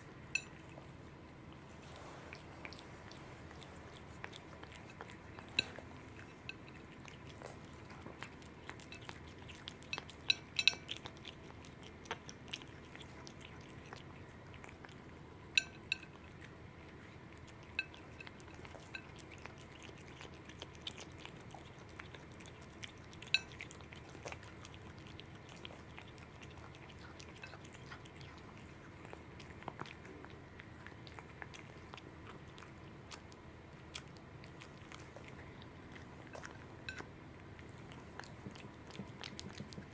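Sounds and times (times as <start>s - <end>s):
cat chewing and licking: 0.0s - 39.9s.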